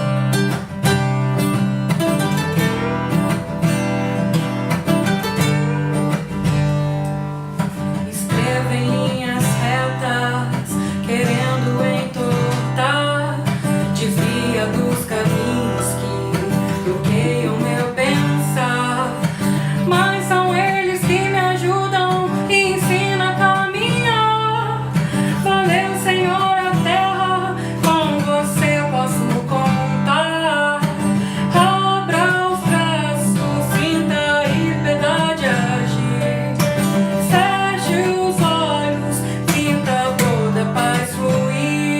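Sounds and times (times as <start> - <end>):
strummed acoustic guitar: 0.0 - 41.9
person singing: 7.8 - 41.9.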